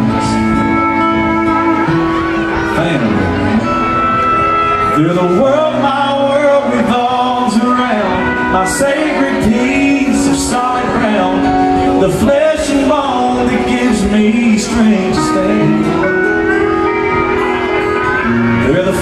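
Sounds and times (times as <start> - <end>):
man singing into microphone: 0.0 - 3.6, 4.8 - 16.8, 18.4 - 19.0
backing band: 0.0 - 19.0
strummed acoustic guitar: 0.0 - 19.0.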